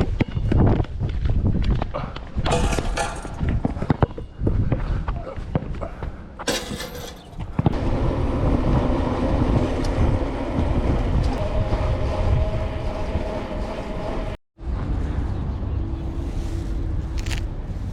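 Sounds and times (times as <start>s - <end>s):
wind buffeting microphone: 0.0s - 6.4s, 7.3s - 17.9s.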